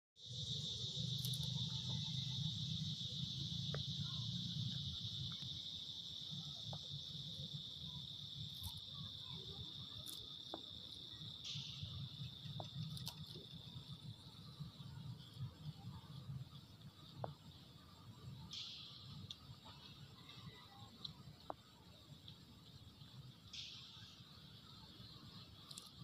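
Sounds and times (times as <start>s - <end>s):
insect chorus buzzing: 0.2s - 26.0s.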